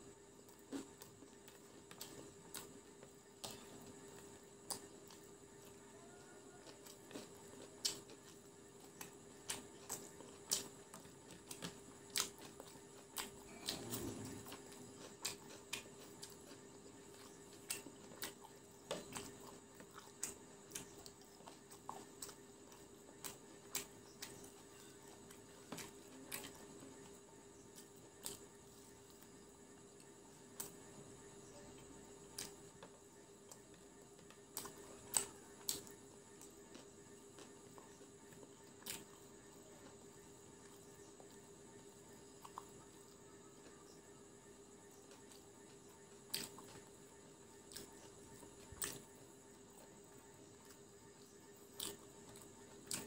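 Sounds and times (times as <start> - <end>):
crunchy chewing: 0.0 - 53.0
faint steady tone: 0.0 - 53.0.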